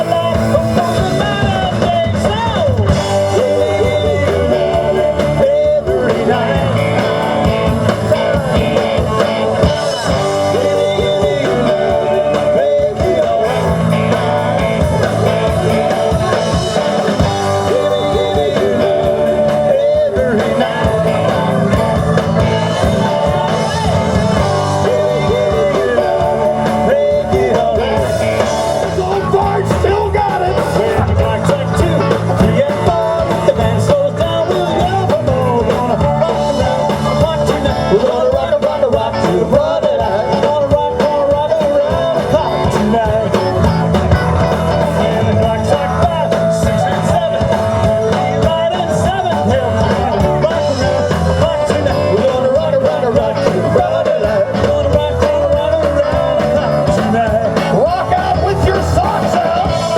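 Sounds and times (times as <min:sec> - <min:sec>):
live rock and roll band: 0:00.0 - 0:59.9.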